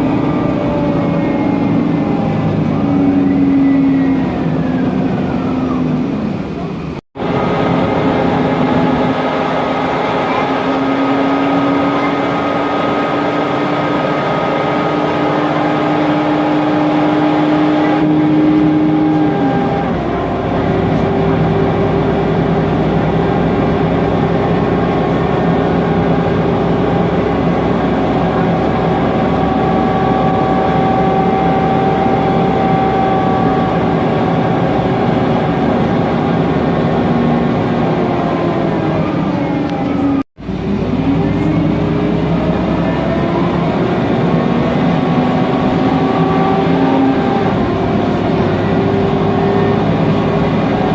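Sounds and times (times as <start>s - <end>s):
bus engine whining: 0.0s - 50.9s.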